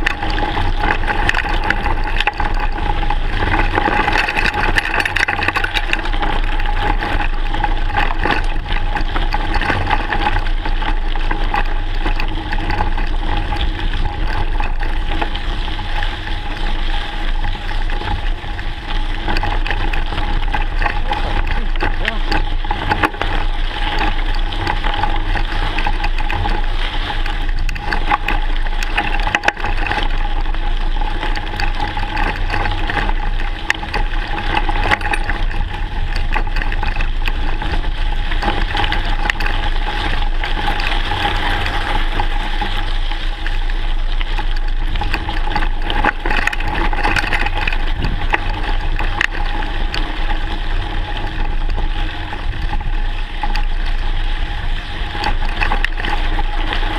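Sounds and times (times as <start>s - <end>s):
bike rattling clicks: 0.0s - 56.9s
bike tyres rumbling on gravel: 0.0s - 56.9s.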